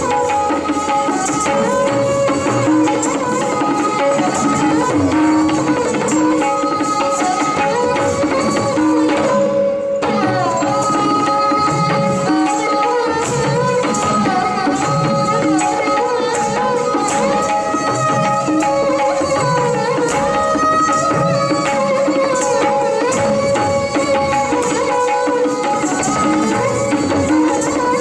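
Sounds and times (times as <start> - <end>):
tabla playing a rhythmic cycle: 0.0 - 28.0.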